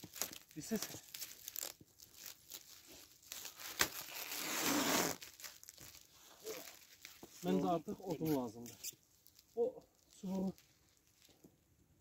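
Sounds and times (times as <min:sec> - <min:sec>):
film unrolling: 0:00.0 - 0:11.4
stretch film crackling: 0:00.0 - 0:11.5.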